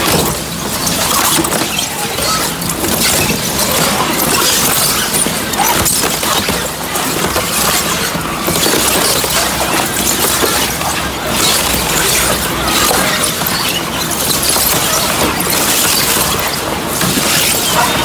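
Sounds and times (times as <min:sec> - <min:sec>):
foam crusher crunching: 0:00.0 - 0:18.0.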